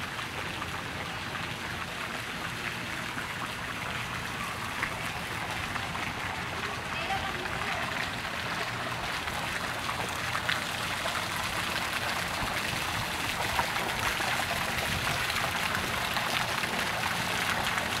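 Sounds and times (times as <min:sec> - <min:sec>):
fountain jets splashing into pool: 0:00.0 - 0:18.0.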